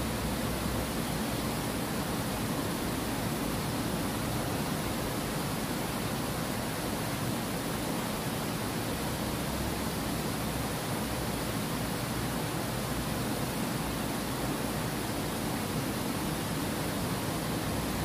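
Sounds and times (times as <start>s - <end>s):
water rushing over weir: 0.0s - 18.0s.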